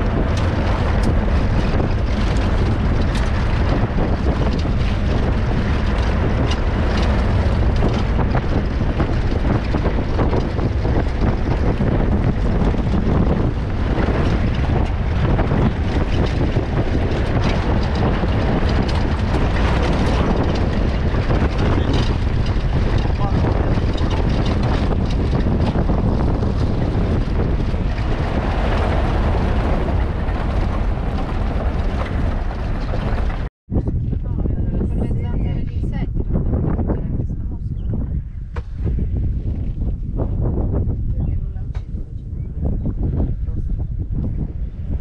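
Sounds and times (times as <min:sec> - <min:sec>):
vehicle engine and road rumble: 0:00.0 - 0:45.0
wind buffeting microphone: 0:00.0 - 0:45.0.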